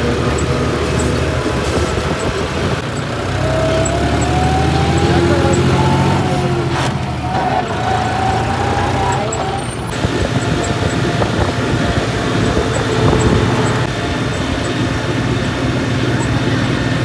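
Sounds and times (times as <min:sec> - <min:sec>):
road and vehicle noise: 0:00.0 - 0:17.0
tractor engine rumbling: 0:00.0 - 0:17.0.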